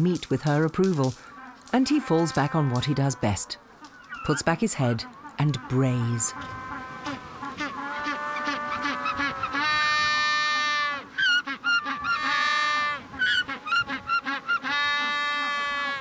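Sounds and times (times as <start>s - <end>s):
penguin braying: 1.4s - 16.0s.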